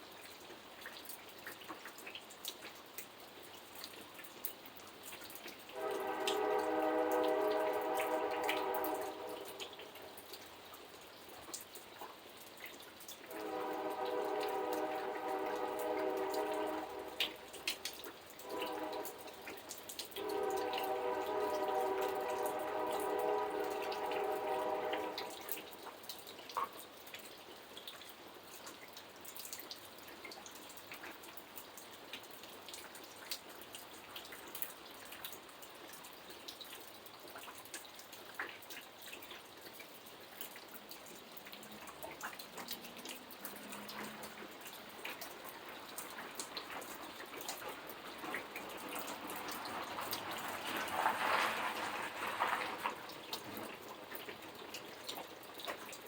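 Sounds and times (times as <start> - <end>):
drops ticking and dripping: 0.0 - 56.0
rain falling: 0.0 - 56.0.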